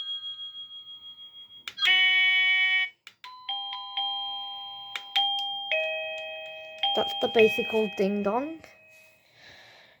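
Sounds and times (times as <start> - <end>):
ding-dong doorbell chime: 0.0 - 9.4.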